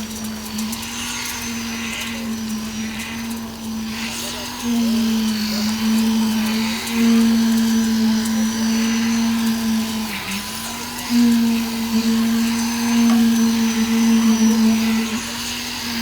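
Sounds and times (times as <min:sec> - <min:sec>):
machine motor humming: 0:00.0 - 0:16.0.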